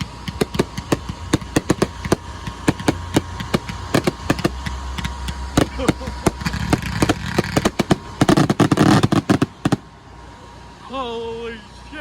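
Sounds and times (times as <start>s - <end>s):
fireworks bangs and cracks: 0.0s - 9.9s.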